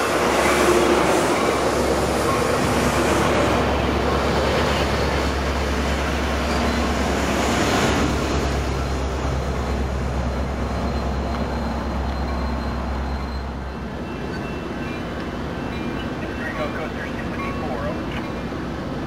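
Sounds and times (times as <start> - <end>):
diesel locomotive engine drone: 0.0 - 19.0
wheels rumbling on rails: 0.0 - 19.0.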